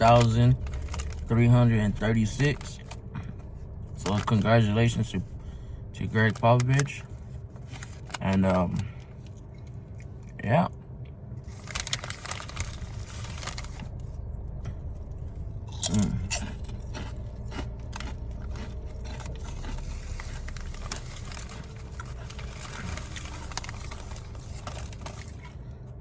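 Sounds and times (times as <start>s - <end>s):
crunching potato chips: 0.0s - 5.3s, 6.0s - 10.6s, 11.4s - 14.2s, 14.9s - 26.0s
low rumble: 0.0s - 26.0s.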